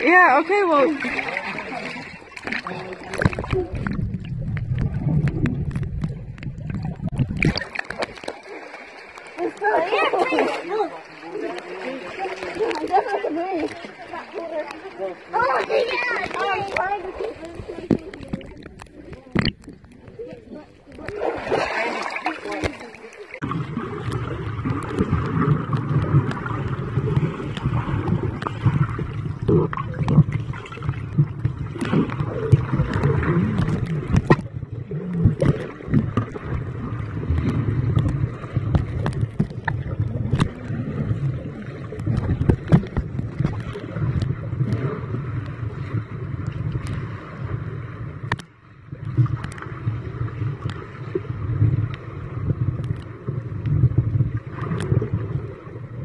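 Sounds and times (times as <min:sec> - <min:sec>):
underwater rumble of moving water: 0:00.0 - 0:56.0.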